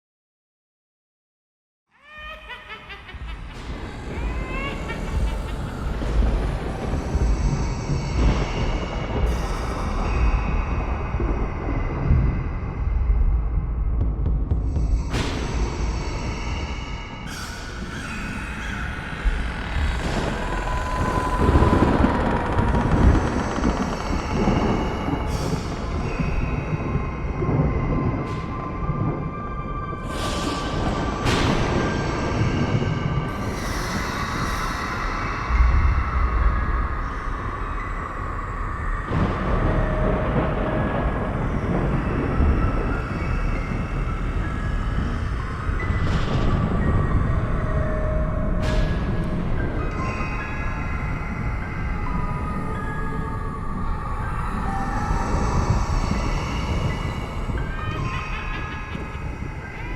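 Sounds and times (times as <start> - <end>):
eerie steady tones: 2.0 - 59.9
rolling thunder rumble: 2.5 - 59.9.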